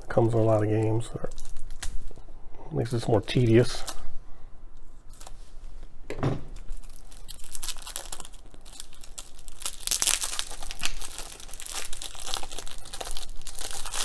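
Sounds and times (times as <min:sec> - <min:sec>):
plastic bag crinkling and tearing: 0:00.1 - 0:04.1, 0:06.6 - 0:14.0.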